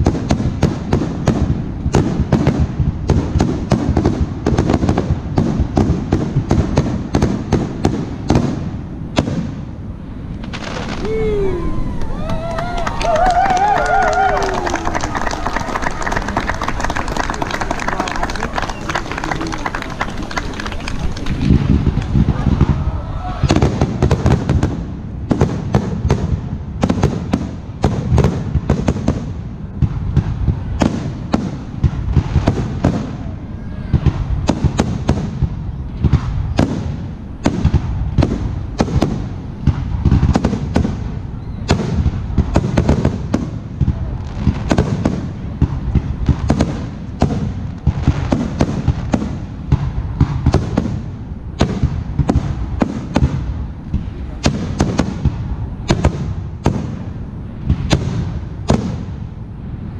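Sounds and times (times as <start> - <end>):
fireworks bursting with sharp bangs: 0.0 - 59.9
low rumble of echoes: 0.0 - 59.9.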